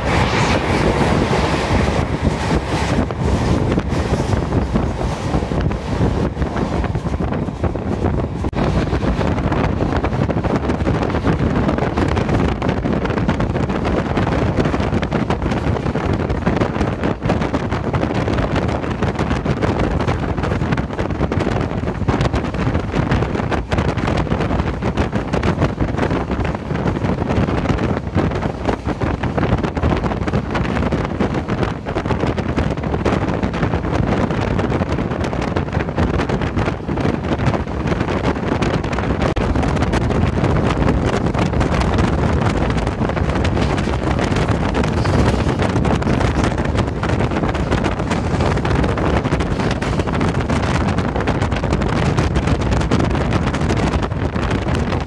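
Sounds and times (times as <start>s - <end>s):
train running at speed: 0.0s - 55.0s
wind buffeting microphone: 0.0s - 55.0s.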